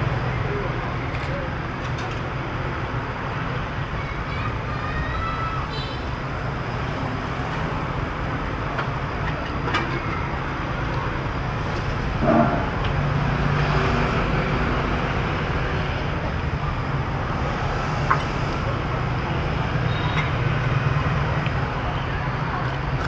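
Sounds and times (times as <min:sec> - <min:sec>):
cars and motorbikes passing: 0:00.0 - 0:23.0.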